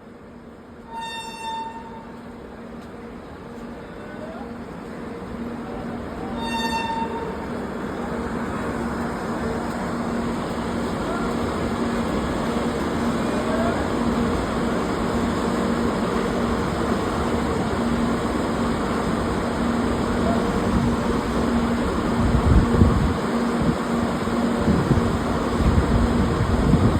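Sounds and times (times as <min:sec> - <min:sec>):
train wheels rumbling on rails: 0:00.4 - 0:26.9.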